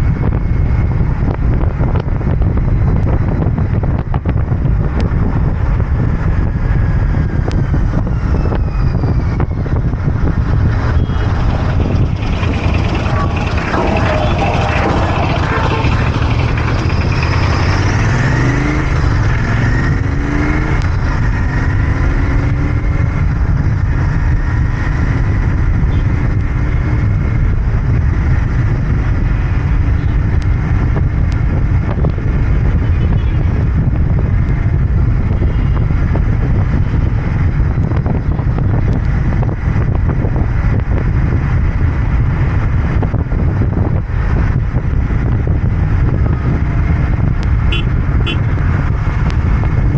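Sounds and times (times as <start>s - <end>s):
motorcycle engine and exhaust: 0.0s - 49.9s.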